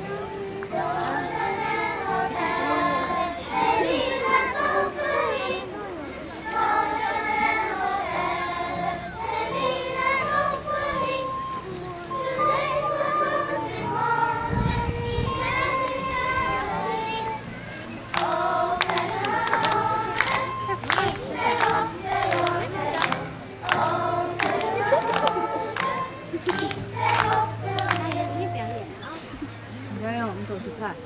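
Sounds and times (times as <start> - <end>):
young children singing: 0.0 - 29.6.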